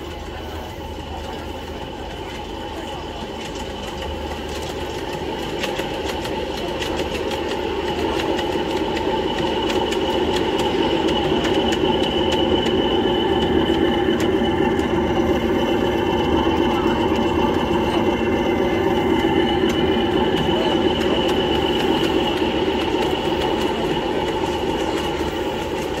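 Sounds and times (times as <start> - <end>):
miniature train humming and whining: 0.0 - 26.0
train wheels clicking over track: 0.0 - 26.0.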